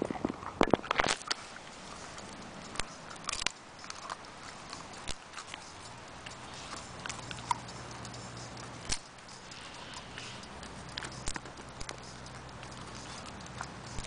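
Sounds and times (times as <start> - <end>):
dog teeth clicking on wooden stick: 0.7 - 14.0.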